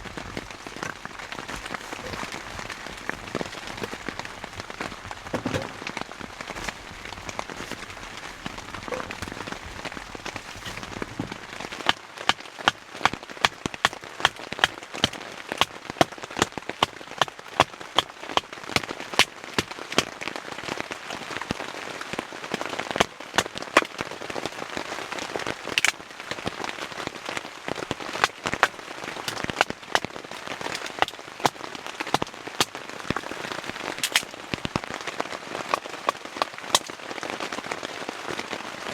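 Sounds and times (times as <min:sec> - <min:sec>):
large raindrops hitting: 0:00.0 - 0:38.9
rain pattering on a tent: 0:00.0 - 0:38.9.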